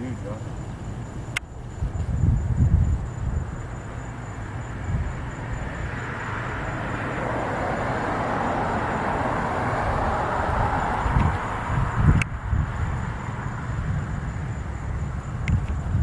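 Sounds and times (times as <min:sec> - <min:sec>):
distant vehicle noise: 0:00.0 - 0:16.0
faint high whine: 0:00.0 - 0:16.0
wind rumble on microphone: 0:00.0 - 0:16.0.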